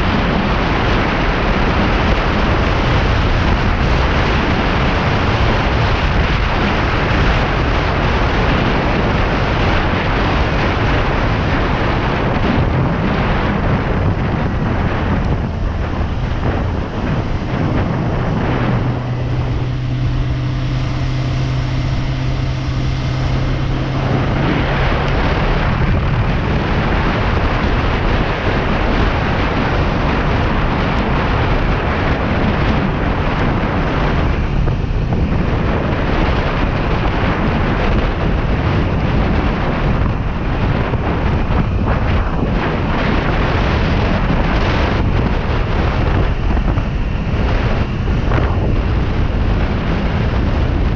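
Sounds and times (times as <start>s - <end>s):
motorcycle engine steady note: 0.0s - 50.9s
wind rushing over microphone: 0.0s - 50.9s.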